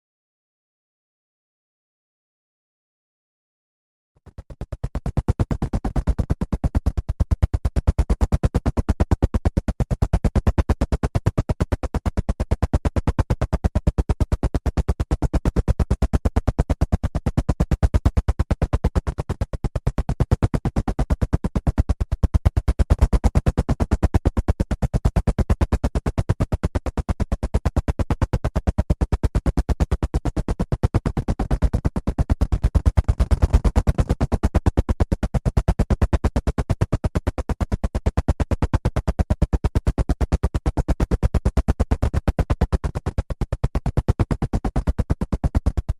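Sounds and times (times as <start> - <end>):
helicopter engine noise: 4.4 - 45.9
helicopter rotor chopping: 4.5 - 45.9.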